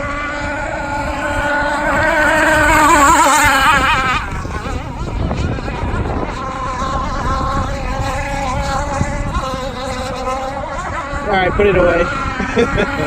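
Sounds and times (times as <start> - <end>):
model boat two-stroke engine running: 0.0 - 13.0.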